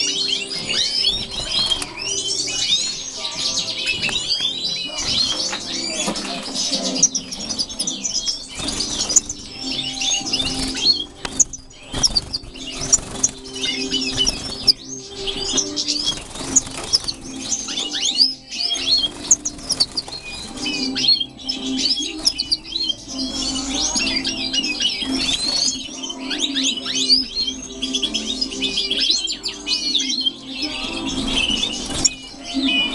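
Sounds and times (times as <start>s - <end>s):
background music low notes: 0.0s - 32.9s
goldfinches twittering: 0.0s - 32.9s.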